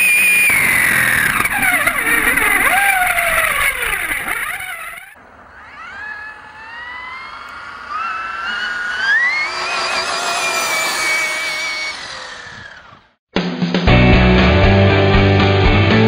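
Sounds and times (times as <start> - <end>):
electric motor whine: 0.0 - 13.2.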